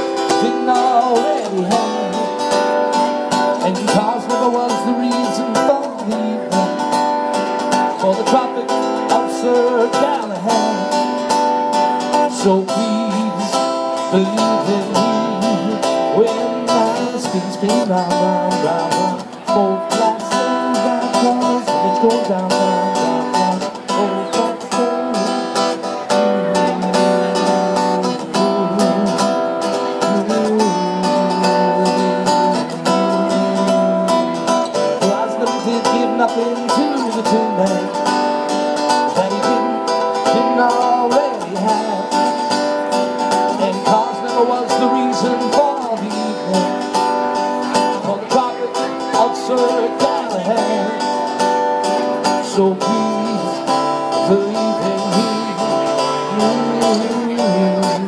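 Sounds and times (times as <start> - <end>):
acoustic guitar strumming: 0.0 - 58.0
sliding guitar melody: 0.0 - 58.0.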